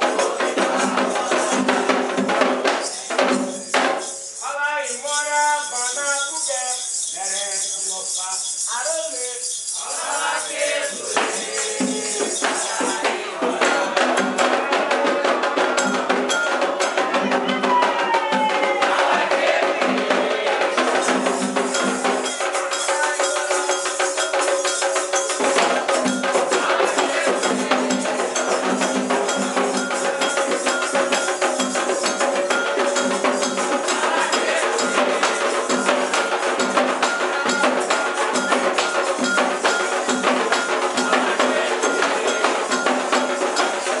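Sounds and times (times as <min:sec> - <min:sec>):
sustained voices singing: 0:00.0 - 0:04.0, 0:09.6 - 0:44.0
bell: 0:00.0 - 0:44.0
fast hand percussion: 0:00.0 - 0:44.0.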